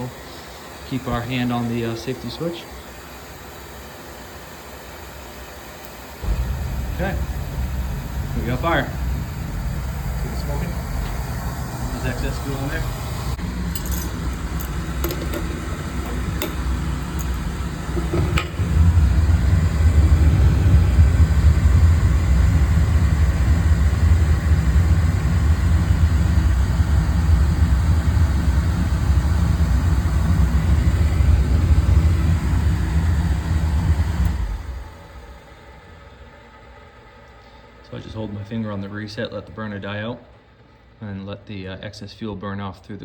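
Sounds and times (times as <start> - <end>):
oil boiler burner rumbling: 0.0 - 40.5.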